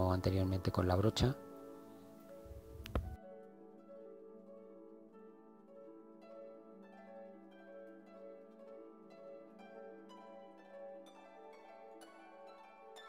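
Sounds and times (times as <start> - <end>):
plucked string melody: 0.0 - 13.0.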